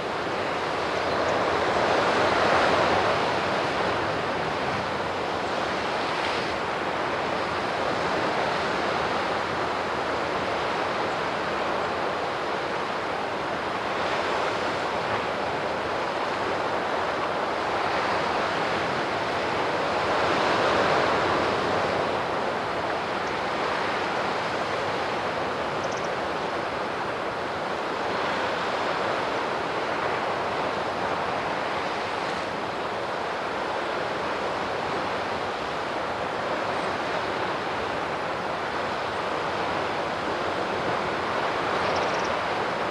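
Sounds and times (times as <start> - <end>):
sea waves washing onto shore: 0.0 - 42.9.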